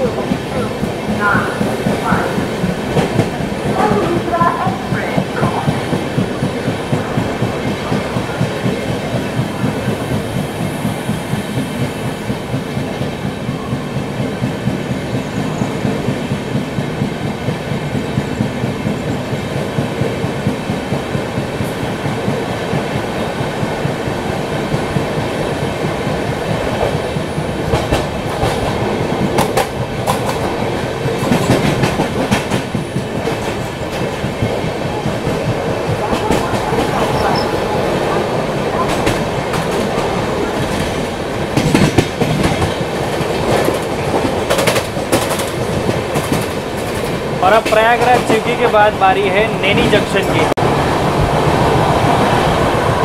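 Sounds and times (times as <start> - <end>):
train wheels clattering over rails: 0.0 - 53.0.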